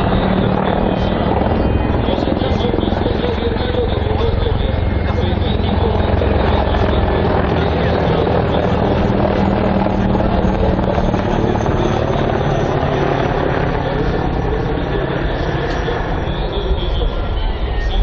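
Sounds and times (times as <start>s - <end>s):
helicopter rotors droning: 0.0s - 18.0s.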